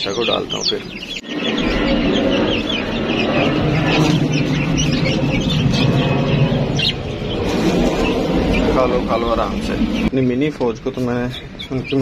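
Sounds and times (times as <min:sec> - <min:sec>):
low rumble: 0:00.0 - 0:11.8
birds and chicks chirping: 0:00.0 - 0:12.0.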